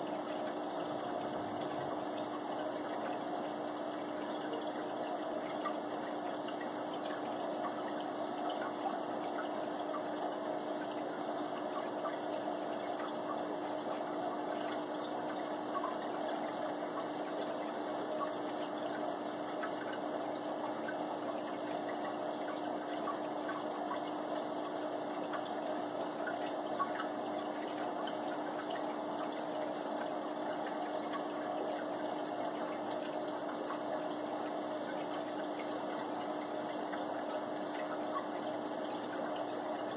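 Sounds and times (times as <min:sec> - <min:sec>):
low pump hum: 0:00.0 - 0:39.9
water trickling: 0:00.0 - 0:39.9
bubbles ticking: 0:00.1 - 0:39.9.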